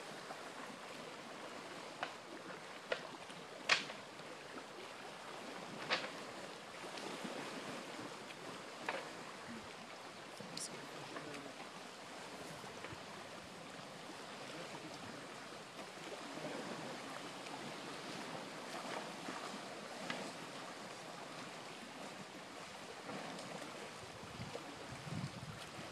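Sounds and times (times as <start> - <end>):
waves lapping against stone wall: 0.0 - 25.9.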